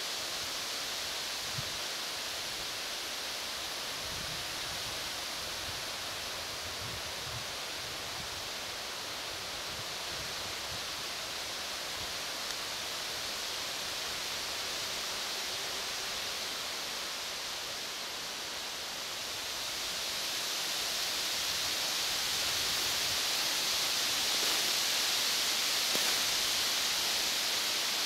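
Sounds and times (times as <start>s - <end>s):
forest ambient hiss: 0.0s - 28.0s.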